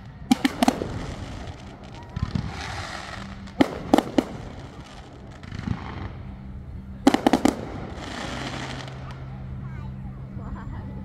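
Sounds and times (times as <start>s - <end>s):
fireworks bangs: 0.0s - 9.5s
fireworks hissing: 0.0s - 9.6s.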